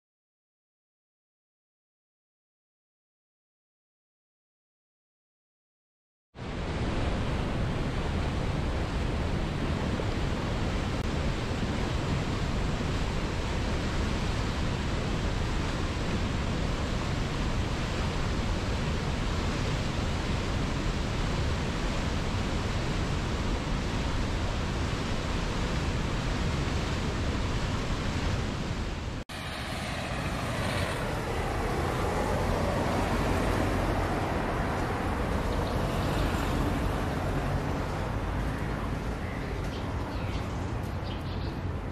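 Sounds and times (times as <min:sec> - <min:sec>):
outdoor background noise: 0:06.4 - 0:41.9
whitewater river rushing: 0:06.5 - 0:40.8.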